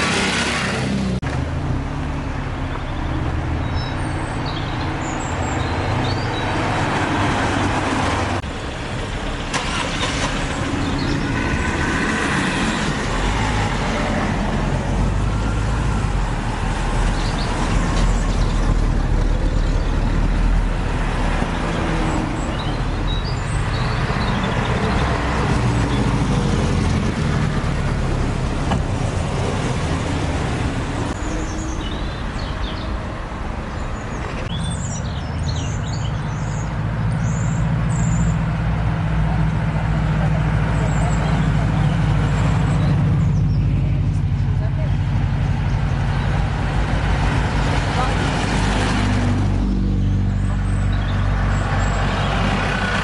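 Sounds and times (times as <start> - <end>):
old car engines rumbling: 0.0 - 53.0.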